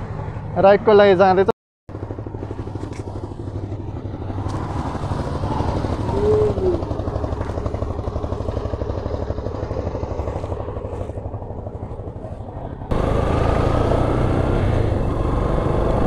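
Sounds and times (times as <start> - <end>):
motorcycle engine running: 1.9 - 16.0.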